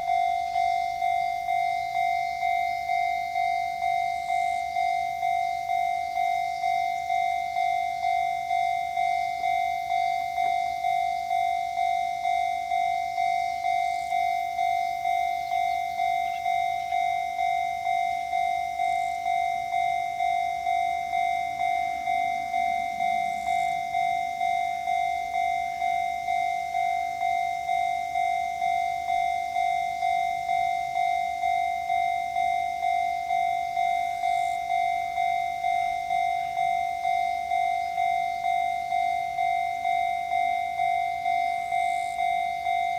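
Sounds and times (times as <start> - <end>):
level crossing warning bell: 0.0 - 42.9.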